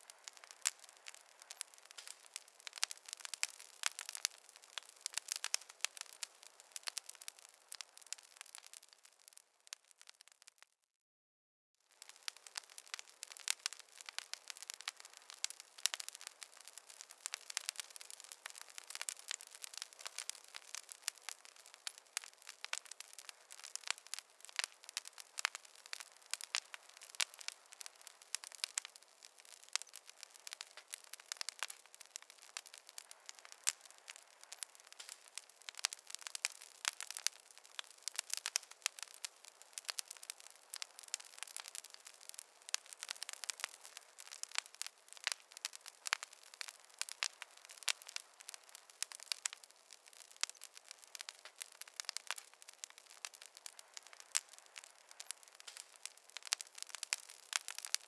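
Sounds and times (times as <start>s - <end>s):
campfire crackling: 0.0s - 10.7s, 11.8s - 58.0s.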